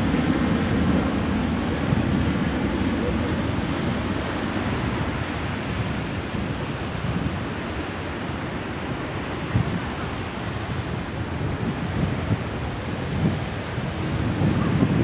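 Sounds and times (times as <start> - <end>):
waves washing onto sand: 0.0 - 15.0
wind rumbling on microphone: 0.0 - 15.0.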